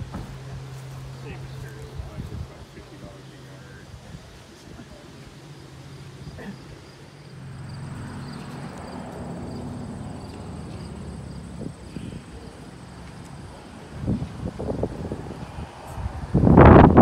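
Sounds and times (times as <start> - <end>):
low engine hum: 0.0 - 17.0
crickets chirping: 0.1 - 17.0.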